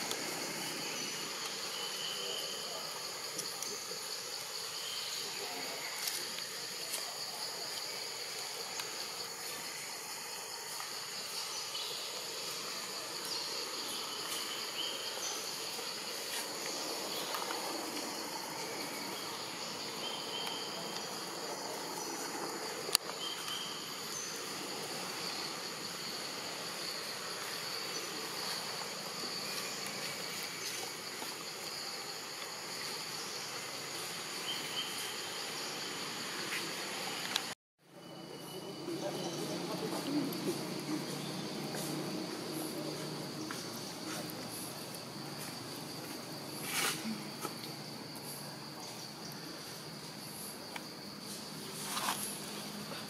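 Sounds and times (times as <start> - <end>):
insect chorus buzzing: 0.0 - 53.0.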